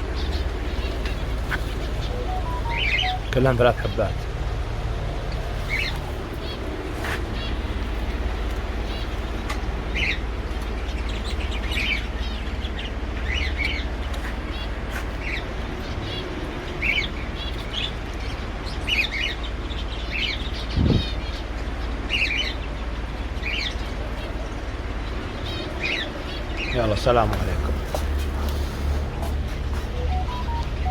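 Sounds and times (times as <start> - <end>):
cage birds chirping: 0.0 - 30.9.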